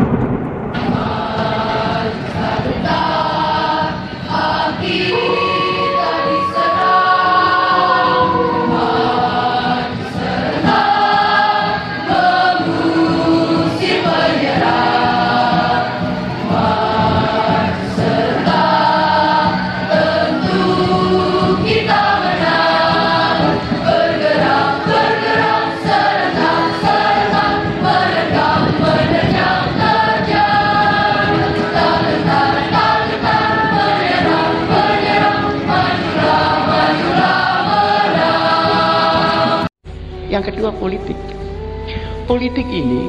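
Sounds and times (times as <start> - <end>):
choir singing: 0.0 - 39.7.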